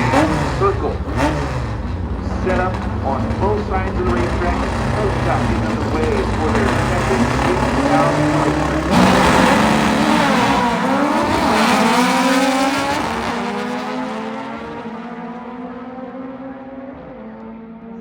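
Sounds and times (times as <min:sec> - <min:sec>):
drag car engines at full throttle: 0:00.0 - 0:18.0.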